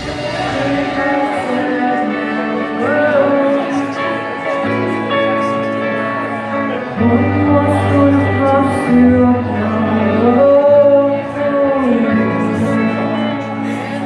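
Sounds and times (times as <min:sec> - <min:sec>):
band playing bass and chords: 0:00.0 - 0:14.0
person singing long sliding notes: 0:00.0 - 0:14.0.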